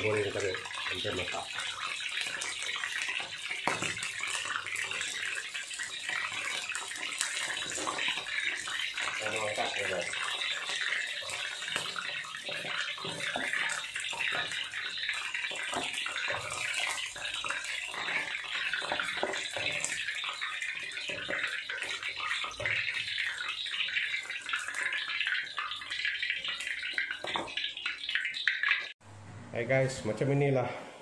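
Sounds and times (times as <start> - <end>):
deep-frying sizzling and crackling: 0.0 - 29.0.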